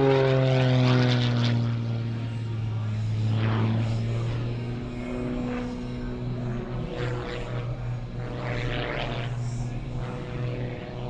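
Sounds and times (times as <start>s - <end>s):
propeller plane droning: 0.0s - 11.0s.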